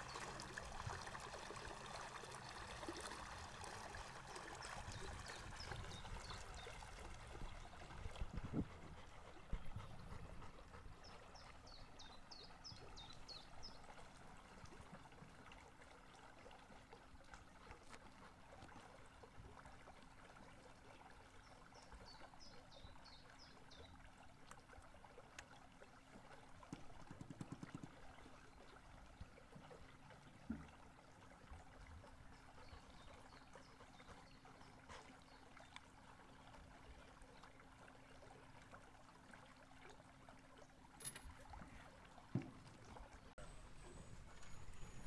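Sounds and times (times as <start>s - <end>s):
water rippling along boat hull: 0.0s - 45.0s.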